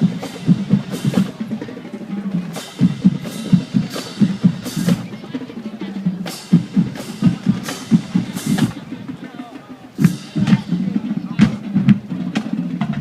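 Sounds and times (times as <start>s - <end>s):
marching drumline cadence: 0.0s - 13.0s.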